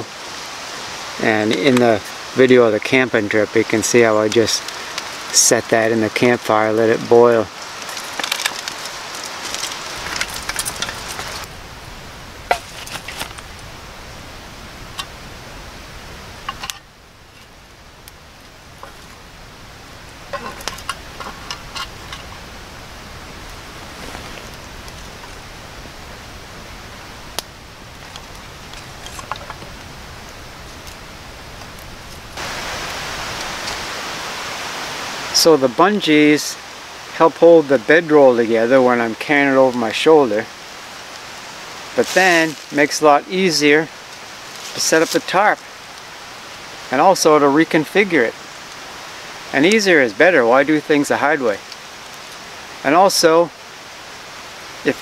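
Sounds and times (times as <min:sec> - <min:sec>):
steady fire hiss: 0:00.0 - 0:55.0
campfire crackling and popping: 0:00.2 - 0:55.0.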